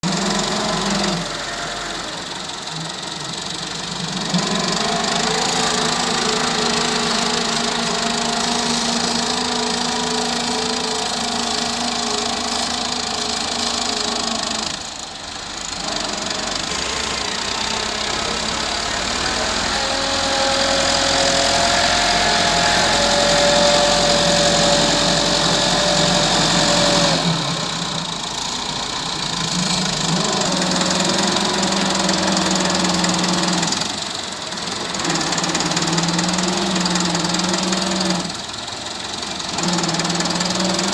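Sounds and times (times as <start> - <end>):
tractor diesel engine running hard: 0.0 - 40.9.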